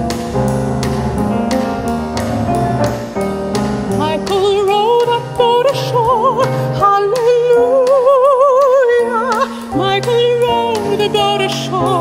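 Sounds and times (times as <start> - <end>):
piano: 0.0 - 12.0.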